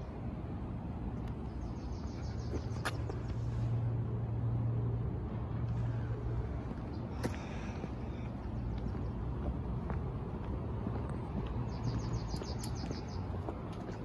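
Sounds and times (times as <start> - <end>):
low outdoor hum: 0.0 - 14.0.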